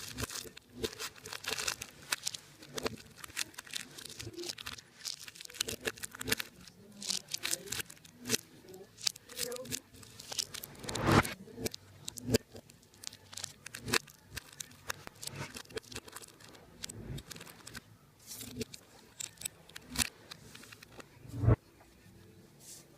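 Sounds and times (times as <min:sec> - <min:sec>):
tearing rustling material: 0:00.0 - 0:20.4.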